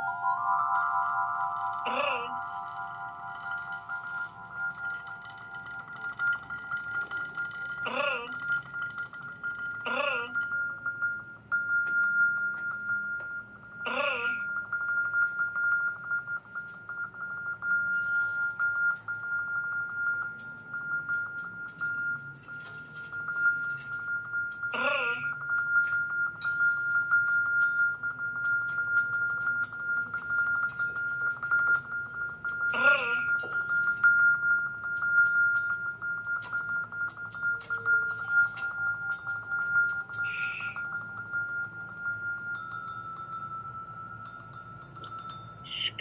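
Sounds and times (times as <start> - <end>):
steady high ringing tone: 0.0 - 46.0
vibraphone played quietly: 0.0 - 46.0.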